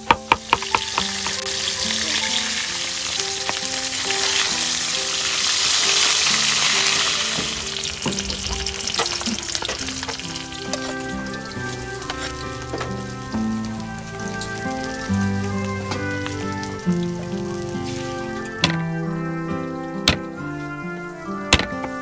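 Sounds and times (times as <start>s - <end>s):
fish sizzling in hot oil: 0.0s - 18.7s
oil popping: 0.0s - 19.4s.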